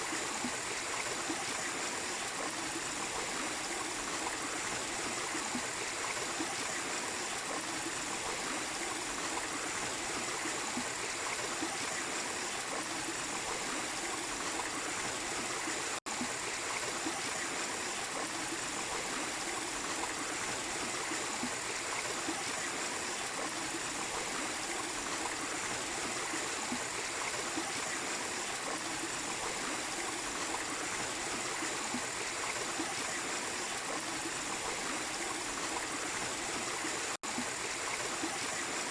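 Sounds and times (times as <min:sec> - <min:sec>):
small waterfall and stream: 0:00.0 - 0:38.9.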